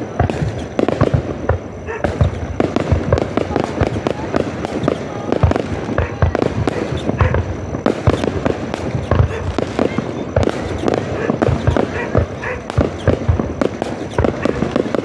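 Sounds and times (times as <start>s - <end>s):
fireworks booming: 0.0s - 15.0s
fireworks crackling bangs: 0.0s - 15.0s.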